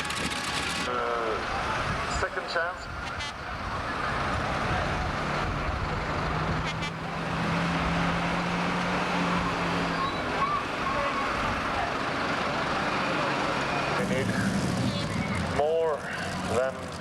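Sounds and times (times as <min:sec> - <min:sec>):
tractor engine running hard: 0:00.0 - 0:17.0.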